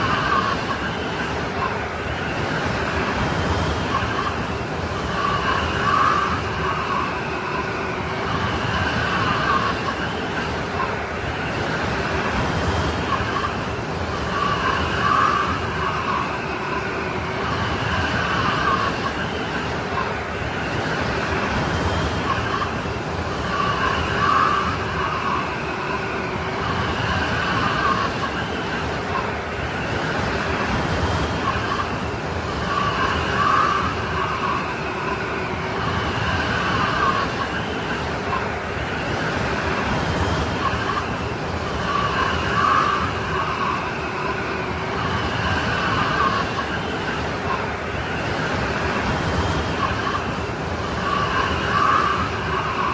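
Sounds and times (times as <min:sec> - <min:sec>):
strong wind rushing: 0:00.0 - 0:52.9
whistling howl of wind: 0:00.0 - 0:52.9.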